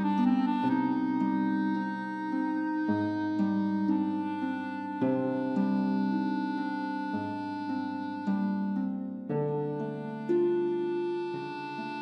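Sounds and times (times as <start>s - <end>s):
sustained instrumental notes: 0.0s - 12.0s.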